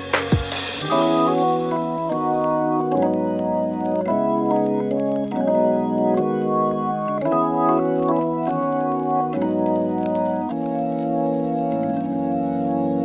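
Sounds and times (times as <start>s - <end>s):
light ticking beat: 0.0s - 13.0s
sustained organ chords: 0.0s - 13.0s.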